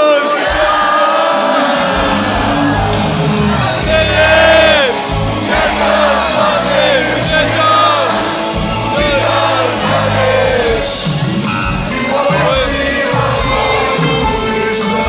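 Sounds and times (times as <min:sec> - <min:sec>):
crowd shouting: 0:00.0 - 0:15.0
live pop-folk music: 0:00.0 - 0:15.0.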